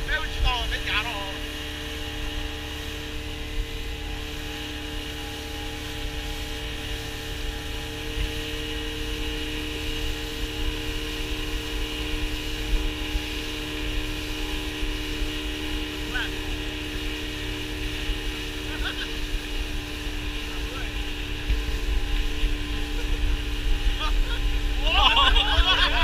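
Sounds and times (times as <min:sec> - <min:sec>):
outboard motor drone: 0:00.0 - 0:26.0.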